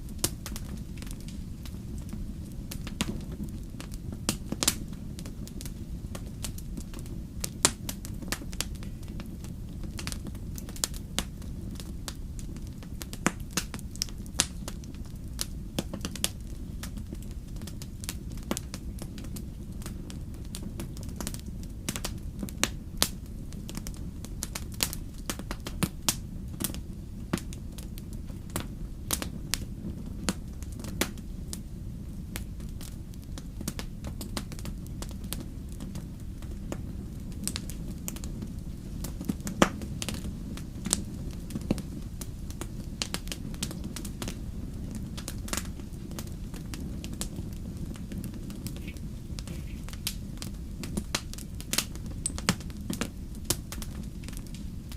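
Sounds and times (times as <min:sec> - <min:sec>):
steady low rumble: 0:00.0 - 0:54.9
wood fire crackling and popping: 0:00.0 - 0:54.9.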